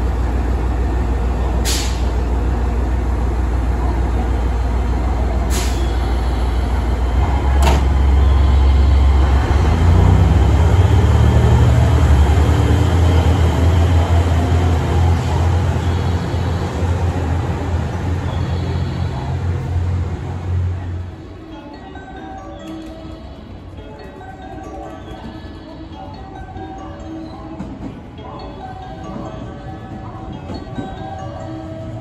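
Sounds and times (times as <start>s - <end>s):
diesel train engine departing: 0.0s - 32.0s.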